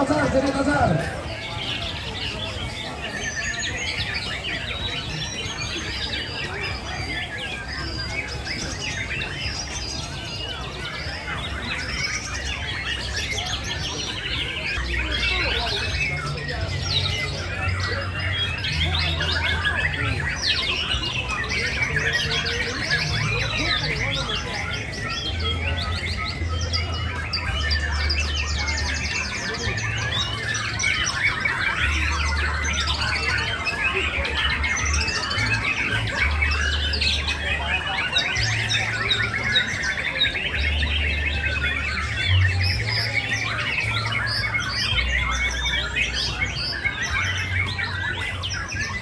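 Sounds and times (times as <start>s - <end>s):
chorus of songbirds singing: 0.0s - 49.0s.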